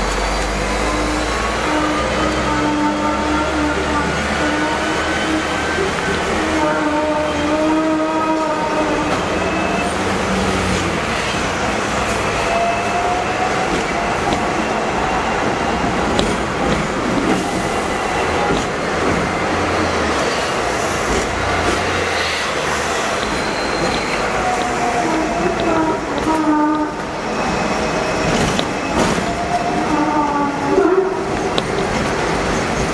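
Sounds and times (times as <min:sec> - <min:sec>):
tram rumbling on rails: 0:00.0 - 0:32.9.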